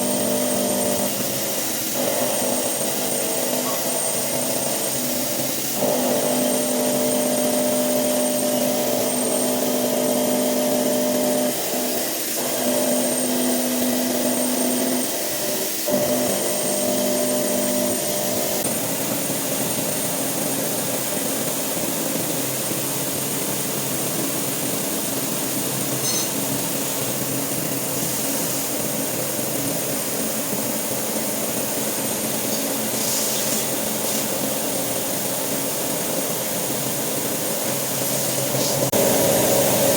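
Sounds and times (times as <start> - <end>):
milling machine cutting steel: 0.0 - 23.7, 25.2 - 39.9
high machine whine: 0.0 - 39.9.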